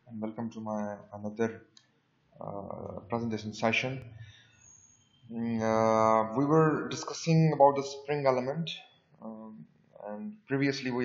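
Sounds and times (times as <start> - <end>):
man talking: 0.0 - 1.6, 2.4 - 4.2, 5.3 - 11.0.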